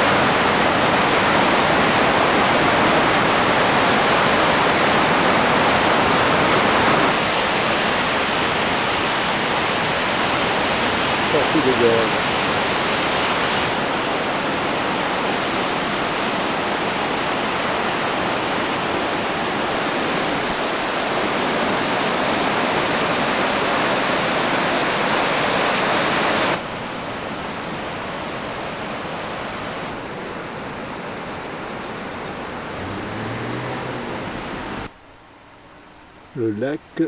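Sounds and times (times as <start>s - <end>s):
river torrent rushing: 0.0s - 37.0s.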